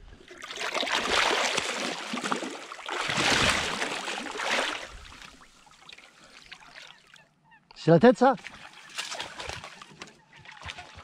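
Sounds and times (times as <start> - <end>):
water splashing at boat side: 0.2 - 7.2, 8.4 - 11.0.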